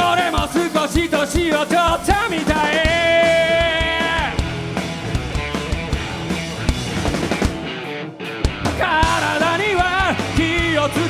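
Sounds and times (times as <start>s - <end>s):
rock guitars and drums: 0.0s - 11.0s.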